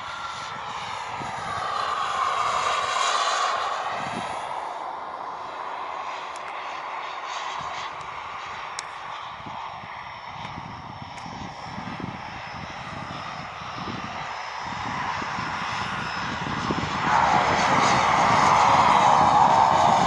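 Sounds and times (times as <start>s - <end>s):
model jet turbine whine: 0.0s - 20.0s.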